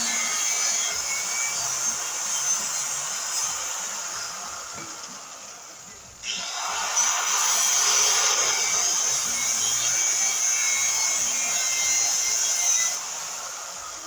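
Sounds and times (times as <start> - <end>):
power tool cutting steel: 0.0 - 14.0.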